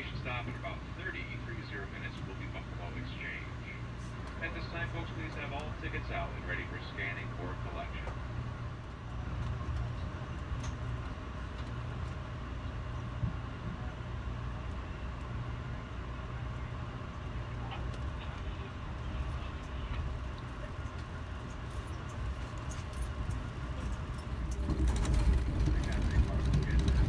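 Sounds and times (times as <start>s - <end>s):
train coach rumble: 0.0s - 27.0s.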